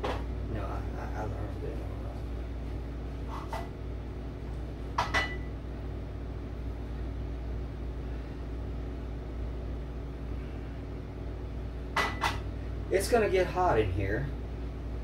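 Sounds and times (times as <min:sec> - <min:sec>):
kitchen machinery humming: 0:00.0 - 0:15.0.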